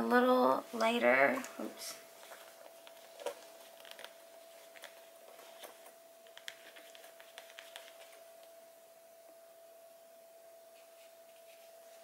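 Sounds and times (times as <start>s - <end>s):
faint steady tone: 1.0s - 12.0s.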